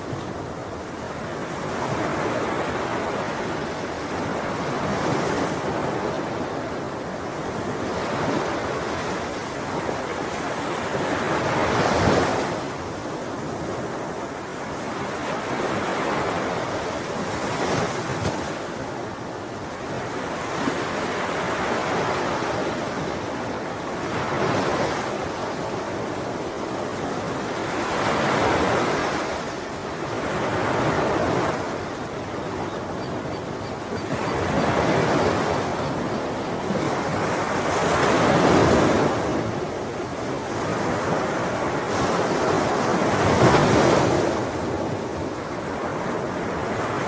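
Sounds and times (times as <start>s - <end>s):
sea waves breaking on shore: 0.0s - 47.0s.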